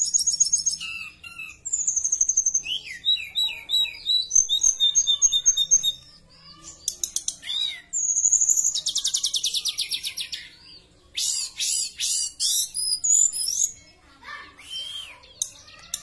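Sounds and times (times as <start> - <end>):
bird trill: 0.0 - 16.0
loud sharp bird calls: 0.0 - 16.0.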